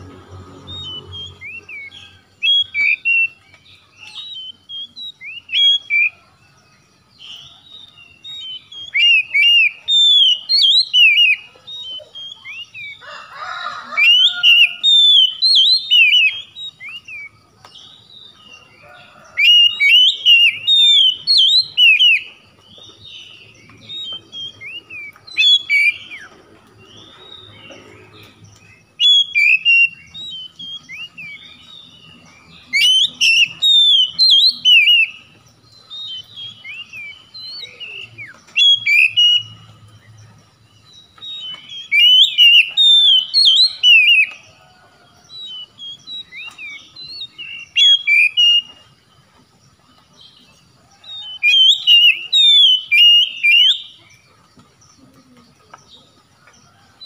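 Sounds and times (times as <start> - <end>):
bird singing whistled notes: 0.0 - 13.0, 14.0 - 44.6, 45.2 - 49.2, 49.9 - 54.2.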